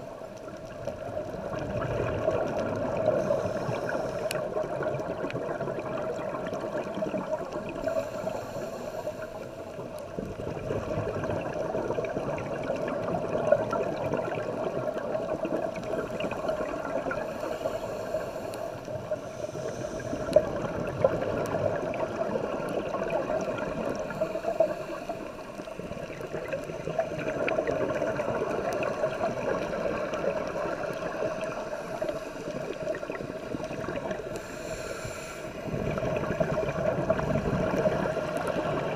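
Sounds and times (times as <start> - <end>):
gurgling water: 0.0 - 38.9.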